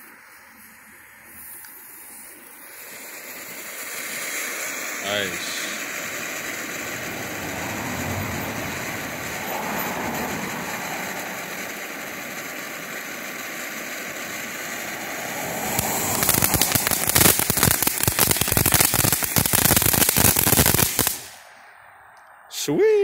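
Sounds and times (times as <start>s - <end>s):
firework fountain hissing: 0.0s - 21.6s
firework sparks crackling: 0.0s - 21.6s.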